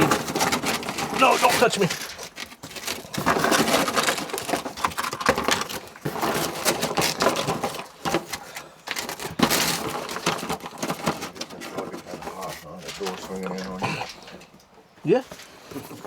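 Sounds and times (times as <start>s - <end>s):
hard objects clicking and clattering: 0.0s - 14.7s.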